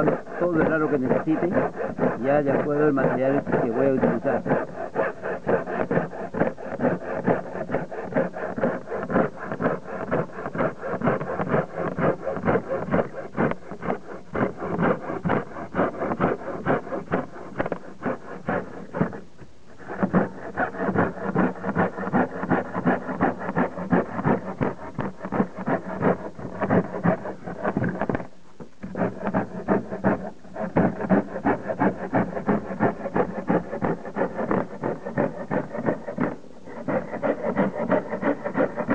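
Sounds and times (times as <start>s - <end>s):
hacksaw sawing board: 0.0s - 38.9s.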